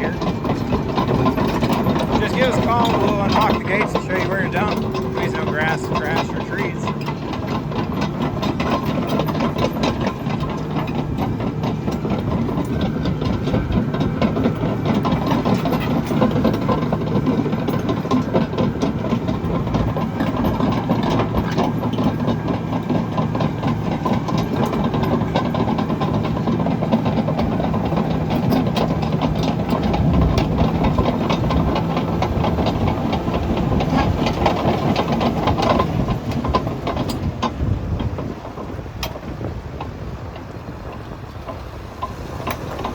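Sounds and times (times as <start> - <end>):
bulldozer diesel engine running: 0.0 - 42.9
steel tracks clanking: 0.0 - 42.9.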